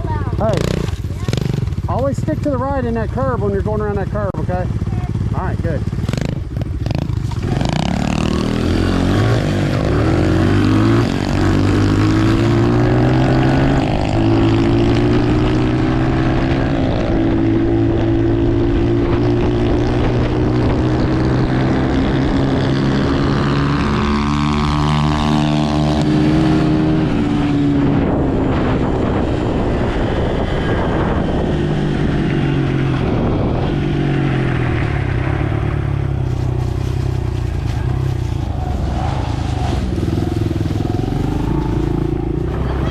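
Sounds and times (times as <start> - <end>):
dirt bike engine: 0.0 - 42.9.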